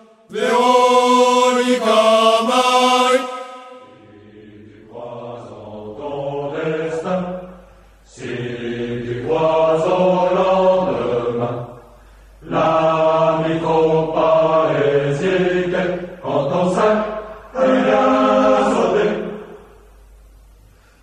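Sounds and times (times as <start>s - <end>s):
music with chant-like held notes: 0.0s - 19.8s.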